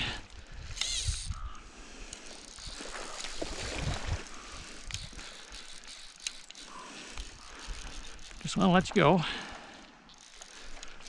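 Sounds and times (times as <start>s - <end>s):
fishing reel drag clicking: 0.1s - 11.0s.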